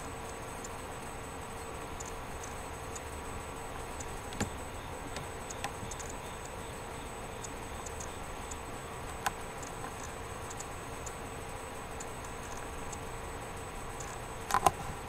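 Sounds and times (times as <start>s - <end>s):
faint irregular ticking: 0.0s - 15.0s
steady whirring hum: 0.0s - 15.0s.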